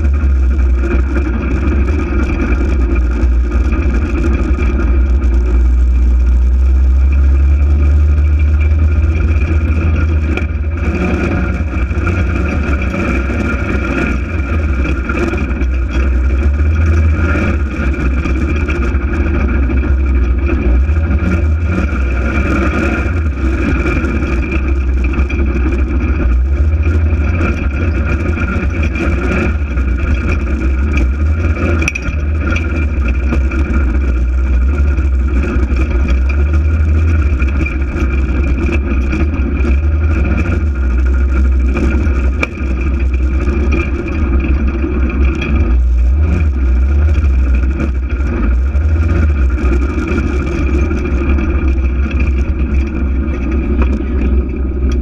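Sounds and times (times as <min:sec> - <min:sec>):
engine running with low rumble: 0:00.0 - 0:55.0
steady whine: 0:00.0 - 0:55.0.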